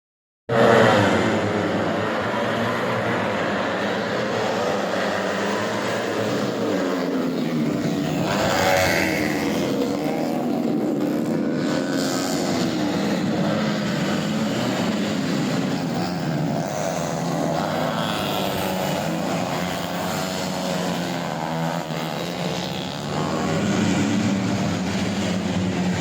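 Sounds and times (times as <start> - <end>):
motorcycle engine revving high: 0.5 - 26.0.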